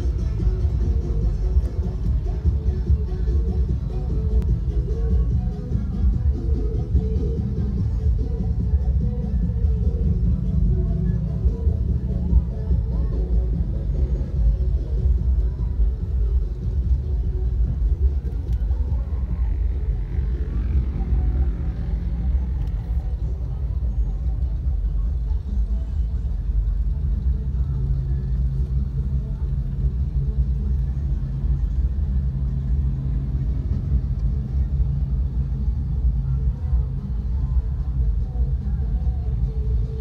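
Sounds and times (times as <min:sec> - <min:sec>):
car engine rumble inside cabin: 0:00.0 - 0:40.0.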